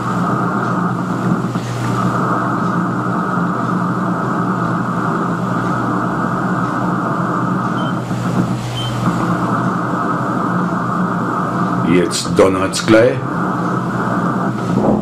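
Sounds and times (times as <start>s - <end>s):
low hum: 0.0s - 12.4s, 13.2s - 15.0s
radio static hiss and crackle: 0.0s - 15.0s.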